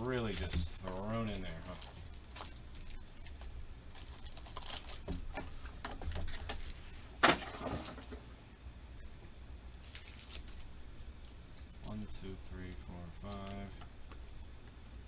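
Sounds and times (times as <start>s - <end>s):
foil packs crinkling: 0.0s - 8.1s, 9.7s - 13.7s.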